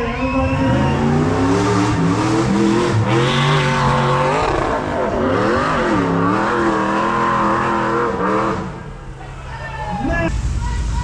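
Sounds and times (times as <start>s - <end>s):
off-road vehicle engine revving: 0.0s - 9.2s.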